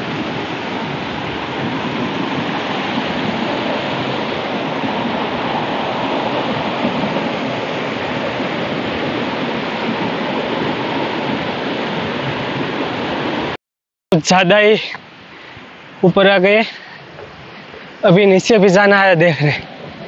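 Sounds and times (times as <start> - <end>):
waterfall rushing: 0.0 - 13.6, 14.2 - 20.0.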